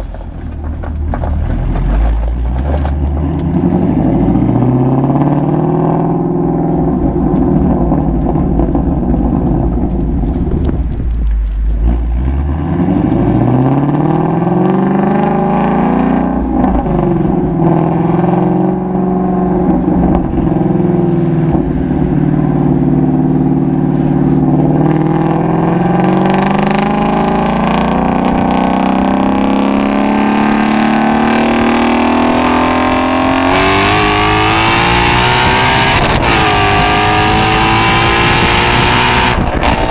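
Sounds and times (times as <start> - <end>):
car engine exhaust while driving: 0.0 - 39.9.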